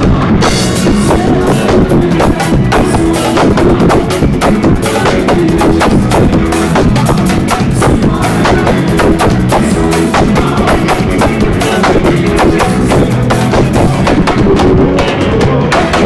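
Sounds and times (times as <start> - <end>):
drum kit fast beat: 0.4 - 16.0
live band music: 0.4 - 16.0.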